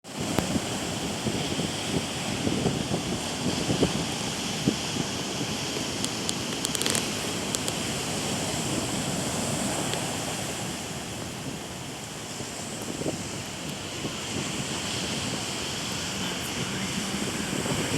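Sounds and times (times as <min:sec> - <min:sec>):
waves breaking on shore: 0:00.0 - 0:17.9.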